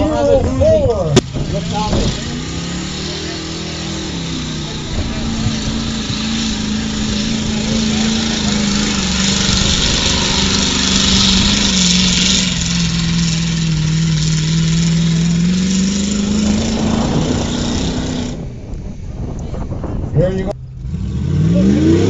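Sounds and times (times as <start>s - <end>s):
truck engine running hard: 0.0s - 22.0s.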